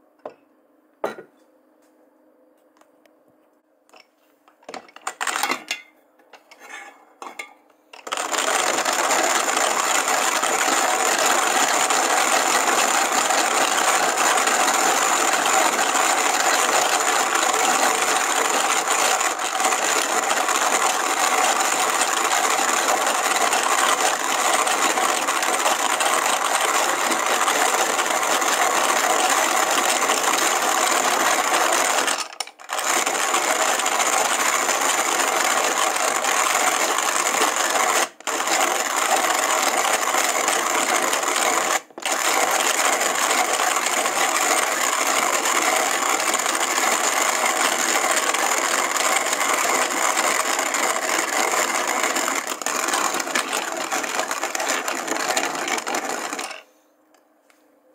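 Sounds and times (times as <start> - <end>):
hand coffee mill grinding: 8.0 - 56.6.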